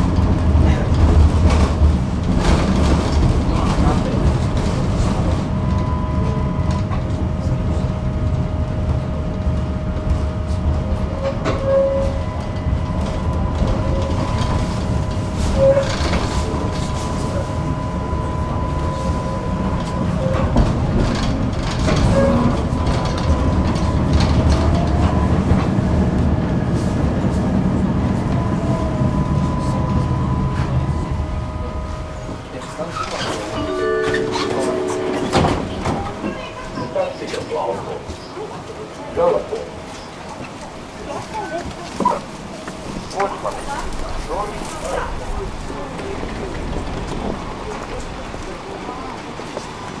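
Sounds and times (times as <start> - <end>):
tram rumbling on rails: 0.0 - 50.0
wheels clacking on track: 0.0 - 50.0.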